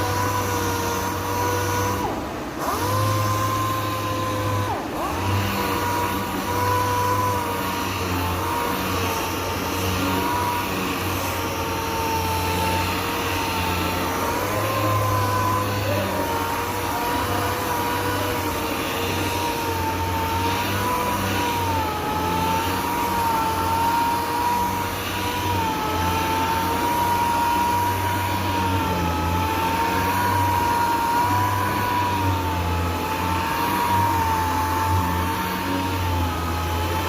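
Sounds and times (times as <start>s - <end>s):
sanding machine motor whine: 0.0s - 37.0s
sanding pad hissing on primer: 0.0s - 37.0s.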